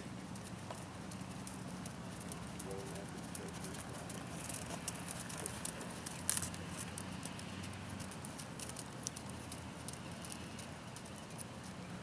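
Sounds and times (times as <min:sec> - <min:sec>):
horse hooves on sand: 0:00.0 - 0:12.0
steady low hum: 0:00.0 - 0:12.0.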